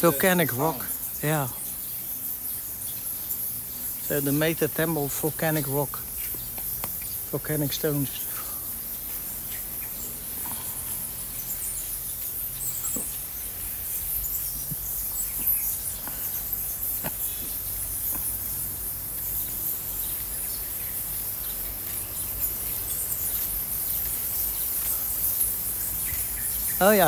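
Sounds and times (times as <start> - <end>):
bats squeaking and chittering: 0.0 - 27.0.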